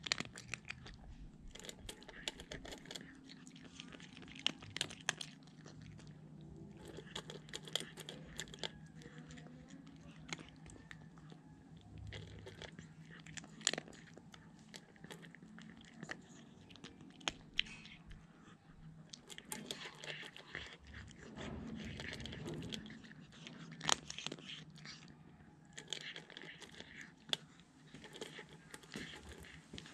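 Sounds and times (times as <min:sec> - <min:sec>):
cat crunching dry kibble: 0:00.0 - 0:29.9.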